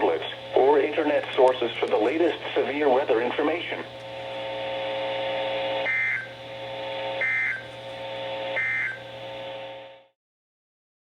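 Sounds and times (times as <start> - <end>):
steady buzzing drone: 0.0 - 10.2.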